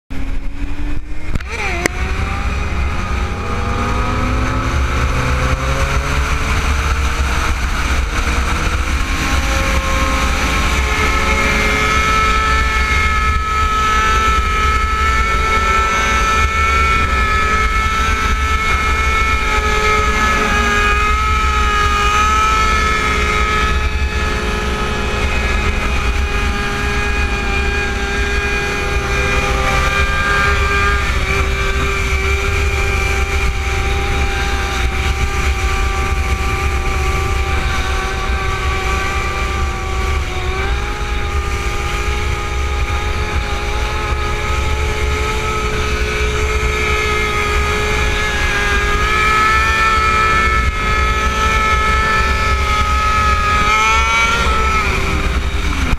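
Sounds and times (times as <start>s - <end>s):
motorcycle engine accelerating: 0.1s - 55.9s
wind on microphone: 0.1s - 55.9s.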